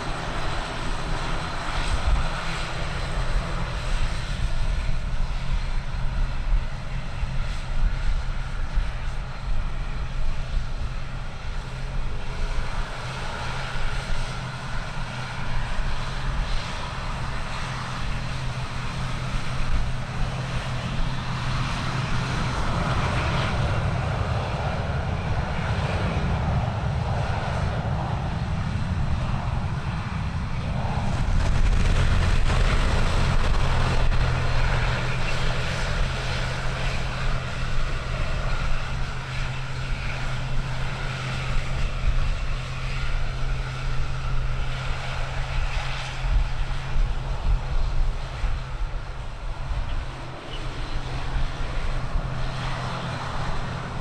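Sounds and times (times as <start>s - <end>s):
aircraft engines running: 0.0s - 54.0s
wind rumbling on microphone: 0.0s - 54.0s.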